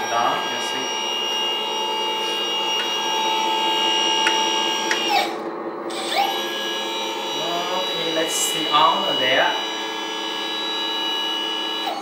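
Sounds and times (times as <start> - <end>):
hydraulic pump motor whining: 0.0 - 12.0
low steady hum: 0.0 - 12.0.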